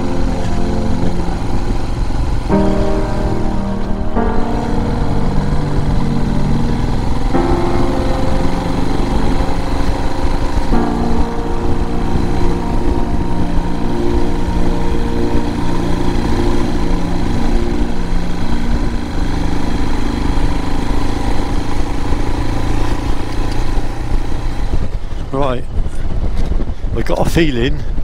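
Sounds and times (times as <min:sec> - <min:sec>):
motorcycle engine cruising: 0:00.0 - 0:27.0
low rumble: 0:00.0 - 0:27.3.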